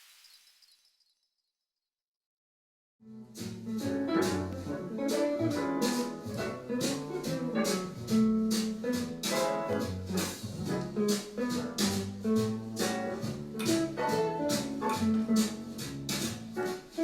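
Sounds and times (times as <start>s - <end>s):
guitar music with drum beat: 3.2s - 17.0s.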